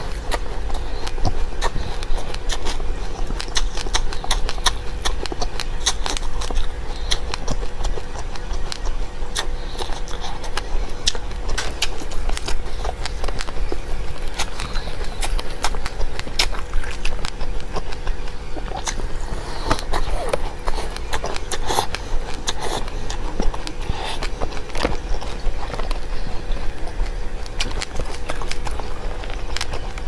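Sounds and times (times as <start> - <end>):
seeds being chewed and crunched: 0.0 - 30.0.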